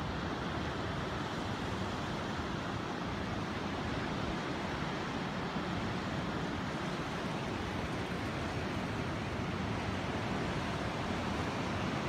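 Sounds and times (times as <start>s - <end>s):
ocean surf breaking over rocks: 0.0s - 12.0s.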